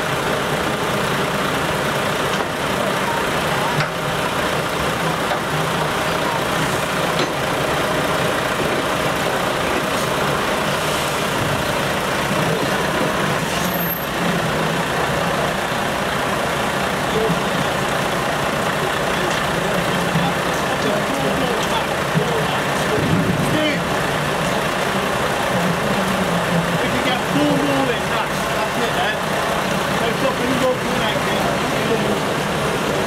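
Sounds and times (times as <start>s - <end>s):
diesel truck engines running: 0.0s - 33.0s.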